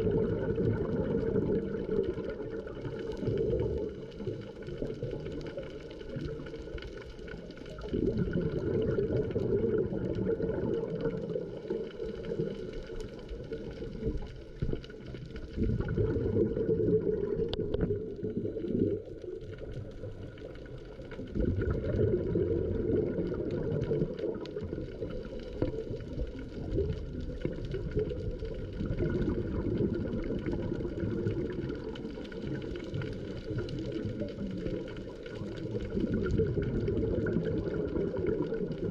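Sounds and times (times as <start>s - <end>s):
underwater regulator bubbles: 0.0s - 38.9s.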